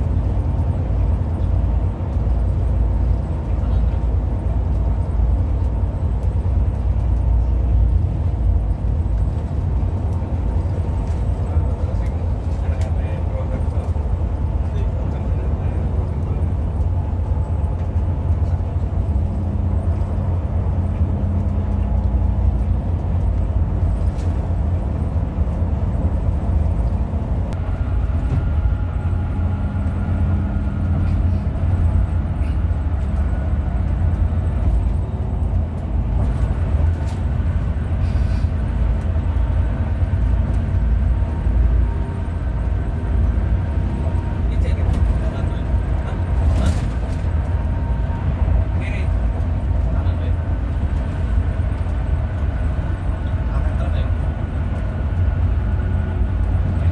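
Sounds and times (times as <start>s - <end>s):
bus engine and road rumble: 0.0s - 56.9s.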